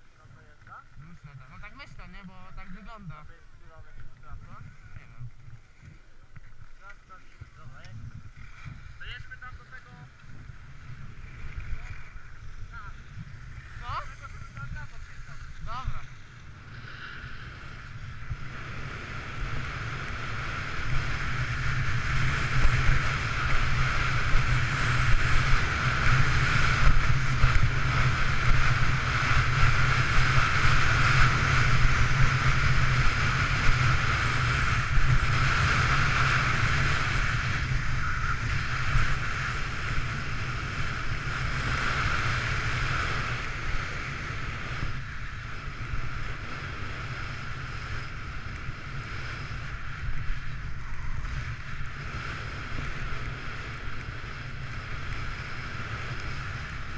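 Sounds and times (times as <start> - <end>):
skis sliding on snow: 0.0 - 56.9
wind rushing over microphone: 0.0 - 56.9.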